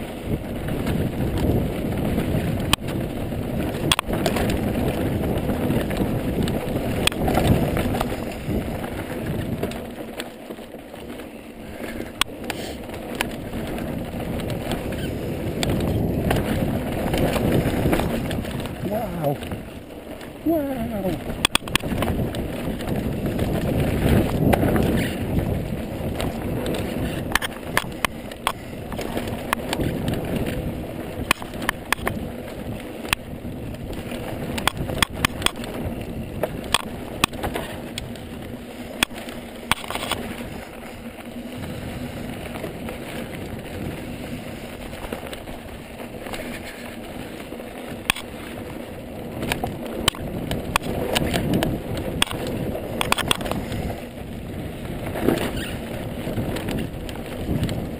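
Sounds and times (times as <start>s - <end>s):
bike clacking and rattling: 0.0s - 57.9s
tyres rumbling on dirt: 0.0s - 57.9s.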